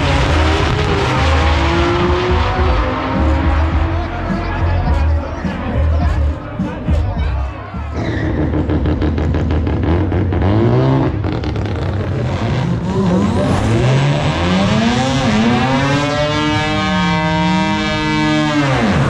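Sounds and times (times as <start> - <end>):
race car engine revving: 0.0 - 7.1, 7.8 - 19.0.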